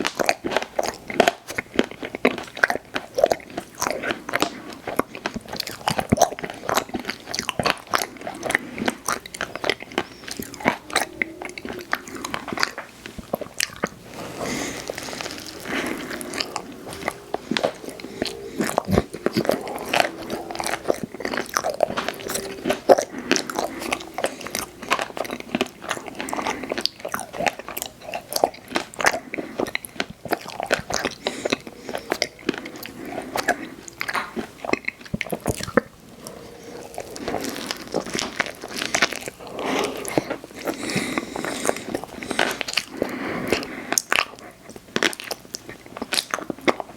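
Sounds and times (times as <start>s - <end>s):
wet mouth clicks: 0.0s - 45.4s
chewing with crunches: 0.0s - 46.9s.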